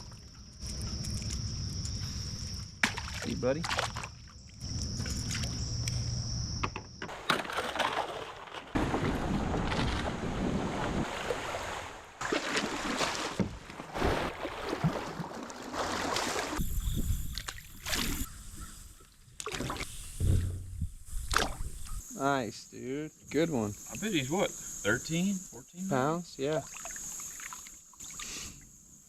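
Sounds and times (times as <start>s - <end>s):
water sloshing around a kayak: 0.0s - 6.1s, 7.1s - 22.0s, 26.0s - 28.3s.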